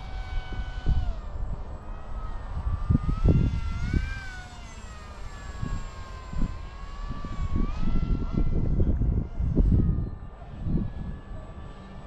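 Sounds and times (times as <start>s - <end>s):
electric motor propeller whining: 0.0s - 12.0s
wind on microphone: 0.0s - 12.0s.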